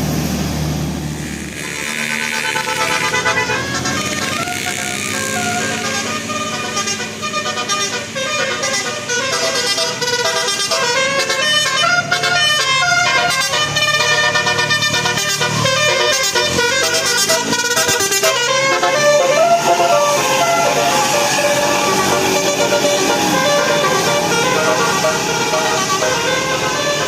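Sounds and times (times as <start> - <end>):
bus multi-tone horn melody: 1.1 - 27.0.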